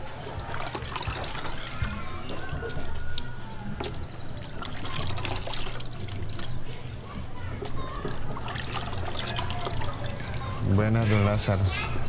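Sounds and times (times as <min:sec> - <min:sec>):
water dripping into plastic bucket: 0:00.2 - 0:10.6.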